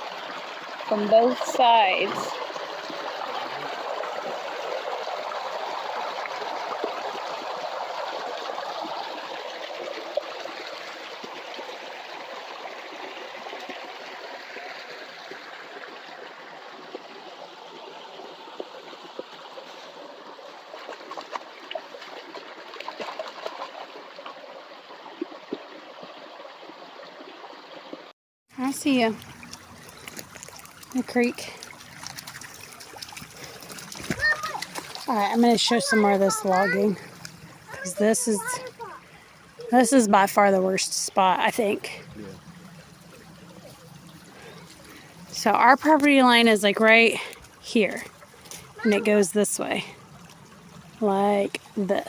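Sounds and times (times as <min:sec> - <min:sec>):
creek water babbling: 0:00.0 - 0:52.0.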